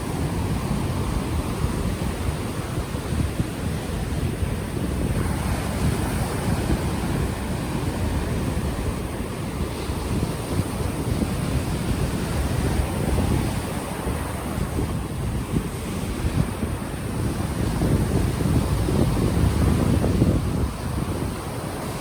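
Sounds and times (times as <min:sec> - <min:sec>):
ocean waves washing ashore: 0:00.0 - 0:22.0
wind buffeting microphone: 0:00.0 - 0:22.0.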